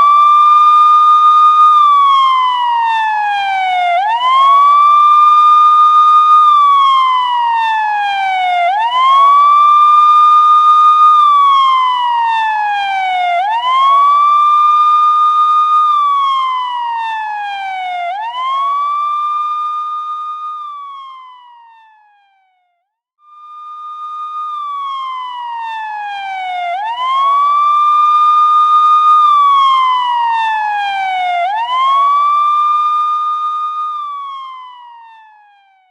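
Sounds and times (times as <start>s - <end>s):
police siren wailing: 0.0s - 22.6s, 23.3s - 35.9s.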